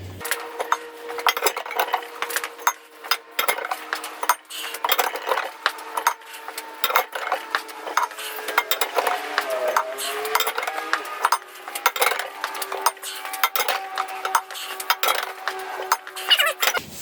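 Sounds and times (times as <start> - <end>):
metallic wrench clanks: 0.2 - 16.8.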